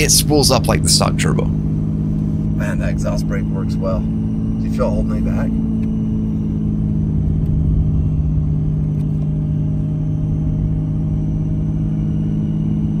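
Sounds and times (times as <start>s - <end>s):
diesel engine with exhaust brake: 0.0s - 13.0s.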